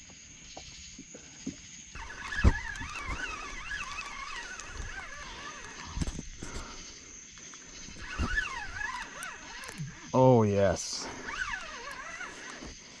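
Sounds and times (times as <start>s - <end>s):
night insects chirring: 0.0s - 13.0s
wavering high whine: 2.0s - 13.0s.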